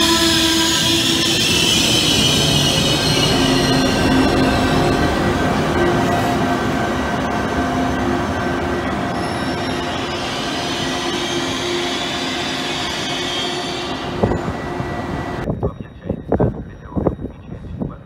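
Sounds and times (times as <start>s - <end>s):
humming traction tones: 0.0s - 17.0s
faint high wheel squeals: 0.0s - 18.0s
train wheels rumbling on rail: 0.0s - 18.0s.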